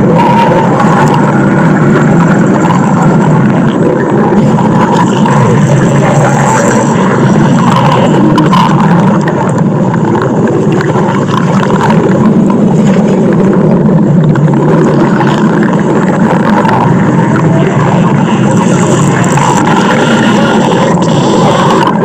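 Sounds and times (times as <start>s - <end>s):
stomach growling: 0.0s - 22.0s.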